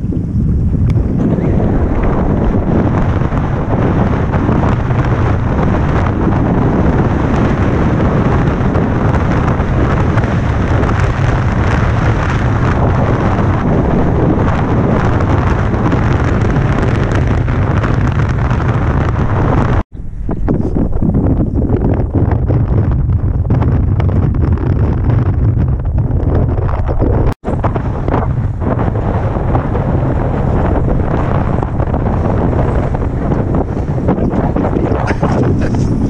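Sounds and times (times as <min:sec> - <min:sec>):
wind blowing across microphone: 0:00.0 - 0:36.0.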